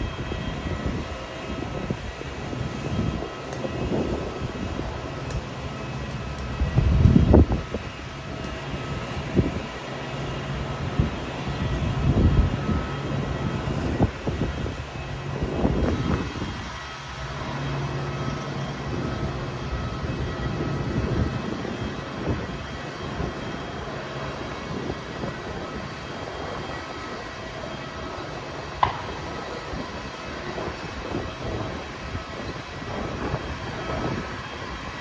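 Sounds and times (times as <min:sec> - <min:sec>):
jet airliner engine whine: 0:00.0 - 0:35.0
wind buffeting microphone: 0:00.0 - 0:35.0.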